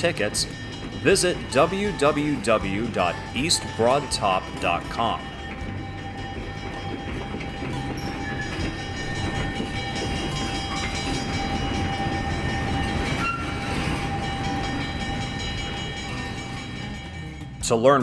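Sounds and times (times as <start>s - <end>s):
diesel train rumble: 0.0s - 17.6s.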